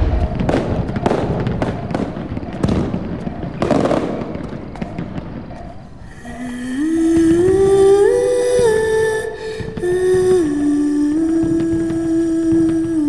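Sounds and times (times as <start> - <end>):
crackling sparks: 0.0 - 13.0
fireworks bangs: 0.0 - 13.0.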